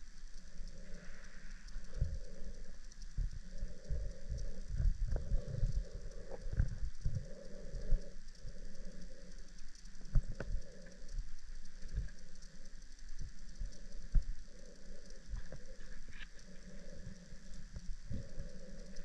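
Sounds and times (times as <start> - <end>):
faint steady whine: 0.0 - 19.0
motor hum: 0.0 - 19.0.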